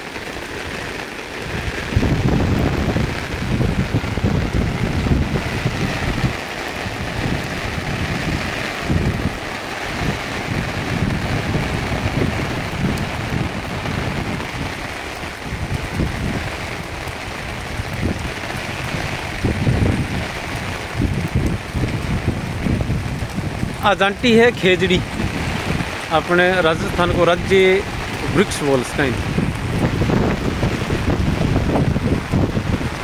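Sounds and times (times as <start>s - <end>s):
heavy rain on foliage: 0.0s - 33.0s
wind buffeting microphone: 0.0s - 33.0s.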